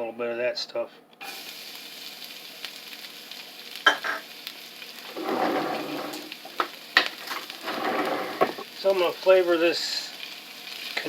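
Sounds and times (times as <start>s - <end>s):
oil sizzling in a pan: 1.2s - 11.0s.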